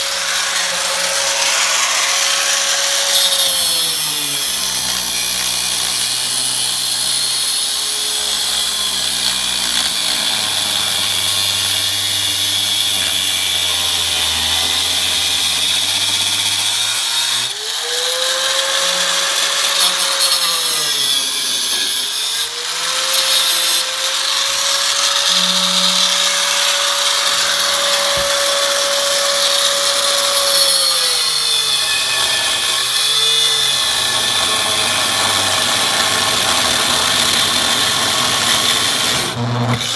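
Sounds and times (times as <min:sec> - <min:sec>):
power tool grinding steel: 0:00.0 - 0:39.9.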